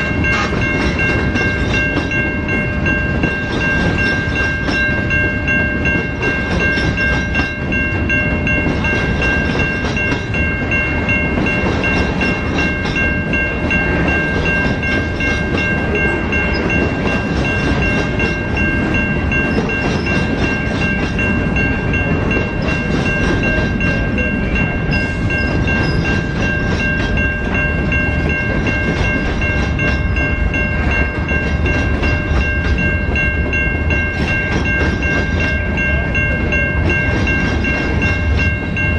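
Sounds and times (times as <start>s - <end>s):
high ringing tones: 0.0s - 38.9s
train wheels rumbling on rails: 0.0s - 38.9s
wheels clickety-clack: 0.0s - 38.9s.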